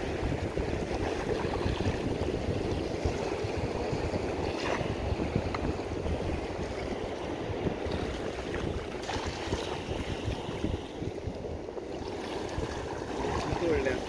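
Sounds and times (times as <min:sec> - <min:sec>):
water lapping: 0:00.0 - 0:14.0
wind noise on microphone: 0:00.0 - 0:14.0.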